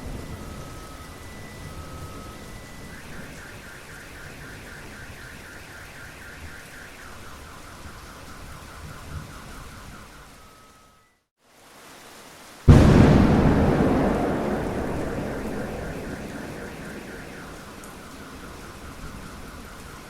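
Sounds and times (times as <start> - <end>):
steady rain: 0.0 - 10.7, 11.4 - 20.0.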